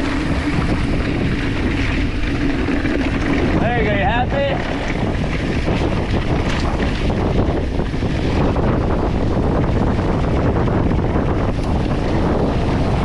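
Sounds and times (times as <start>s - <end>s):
bike rattling over dirt trail: 0.0s - 13.0s
bike tyres rolling: 0.0s - 13.0s
wind rushing over microphone: 0.0s - 13.0s.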